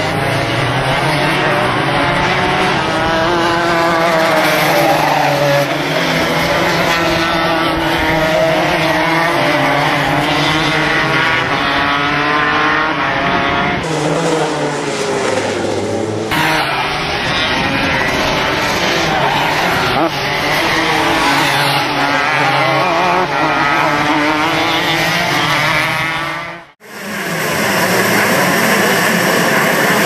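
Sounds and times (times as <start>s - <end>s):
racing kart engines: 0.0s - 30.0s.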